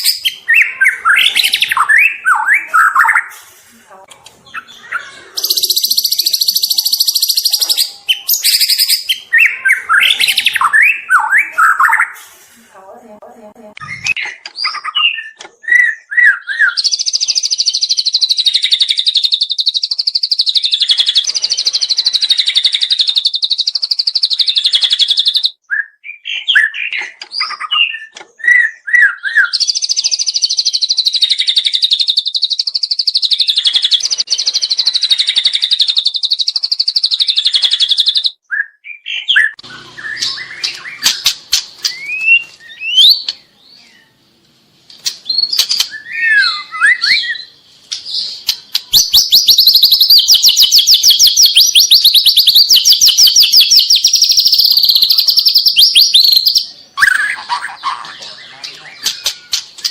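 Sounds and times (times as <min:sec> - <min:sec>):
bird singing whistled notes: 0:00.0 - 0:03.3, 0:04.6 - 0:12.2, 0:13.8 - 0:44.1, 0:45.2 - 0:57.4.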